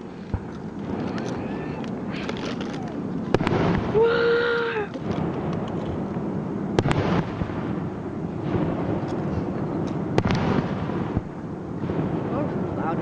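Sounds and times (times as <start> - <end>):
fireworks booming: 0.0 - 13.0
sharp firework cracks: 0.0 - 13.0.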